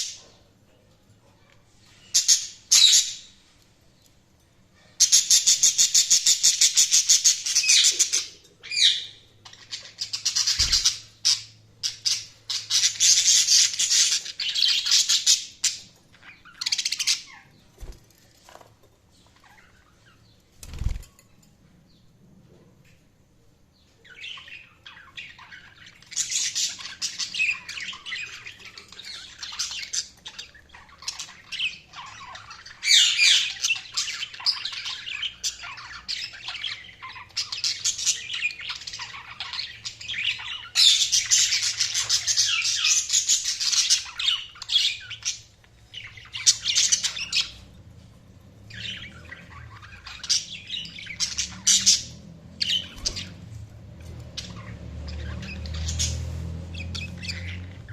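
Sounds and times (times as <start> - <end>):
budgerigars chirping and squawking: 0.0 - 0.5, 1.4 - 3.6, 4.7 - 21.2, 24.0 - 57.9.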